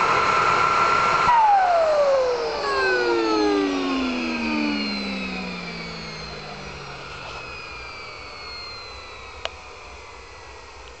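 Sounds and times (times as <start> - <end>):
model jet turbine winding down: 0.0 - 11.0.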